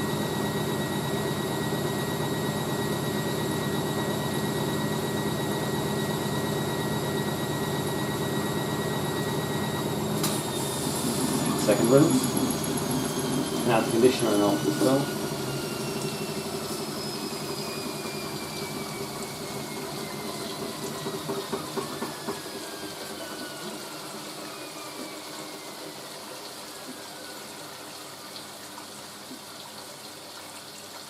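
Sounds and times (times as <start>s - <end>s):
water rushing into washing machine: 0.0s - 31.0s.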